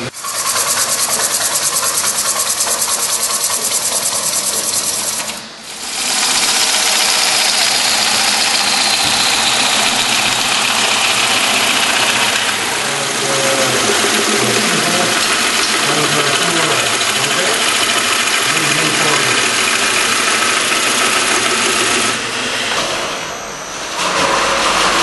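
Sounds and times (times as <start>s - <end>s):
gouge cutting wet wood on lathe: 0.0s - 25.0s.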